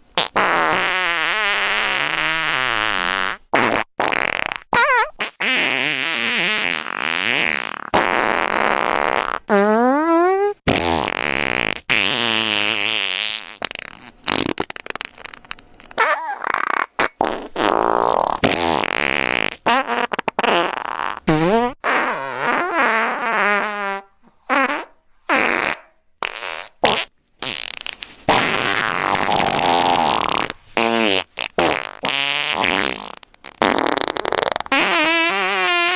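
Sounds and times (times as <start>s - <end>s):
fart sound effects: 0.2s - 35.9s.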